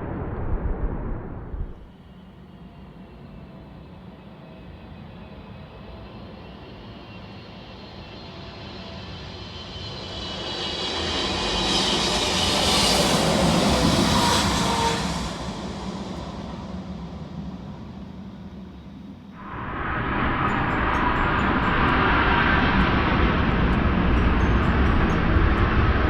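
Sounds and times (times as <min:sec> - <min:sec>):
high jet engine whine: 0:00.0 - 0:26.0
jet airliner passing overhead: 0:00.0 - 0:26.0.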